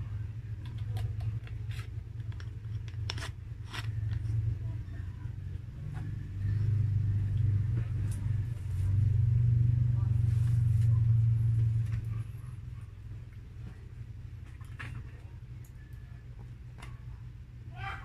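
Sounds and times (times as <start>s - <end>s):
low hum: 0.0s - 17.8s.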